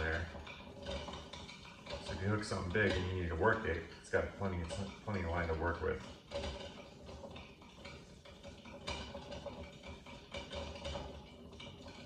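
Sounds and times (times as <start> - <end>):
fishing reel gears whirring: 0.0 - 12.0.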